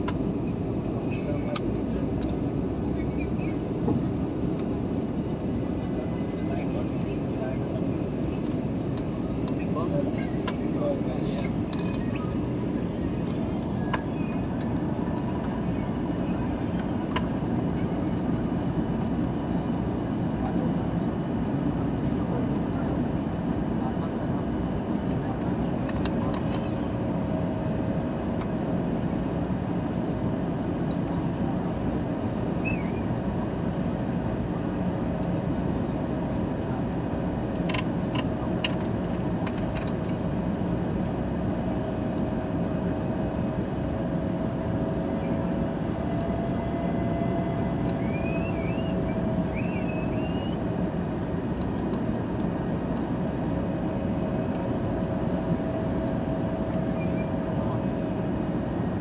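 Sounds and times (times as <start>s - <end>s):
airliner cabin rumble: 0.0s - 59.0s
engine hum: 0.0s - 59.0s.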